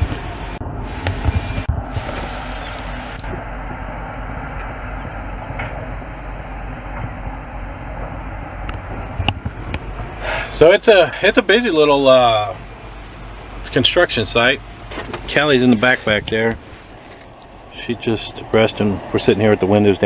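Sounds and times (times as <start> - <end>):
engine rumble: 0.0 - 20.0.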